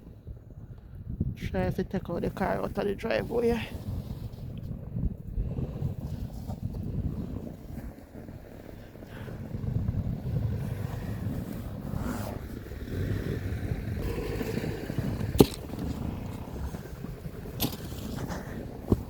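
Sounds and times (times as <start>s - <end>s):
car engine rumbling: 1.3s - 19.0s.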